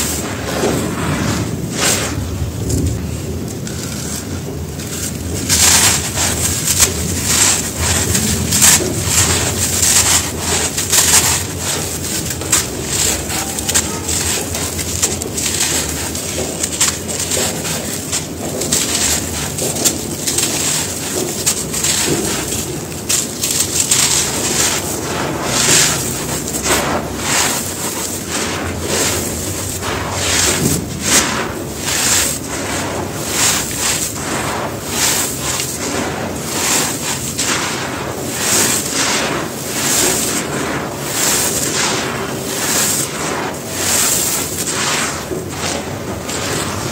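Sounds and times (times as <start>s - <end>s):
hands crushing dry cement: 0.0s - 46.9s
powder pouring through fingers: 0.0s - 46.9s.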